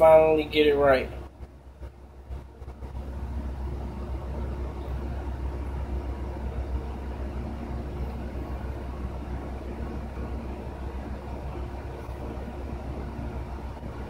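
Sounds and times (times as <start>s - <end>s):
faint steady tones: 0.0s - 14.0s
low machine hum: 0.0s - 14.0s.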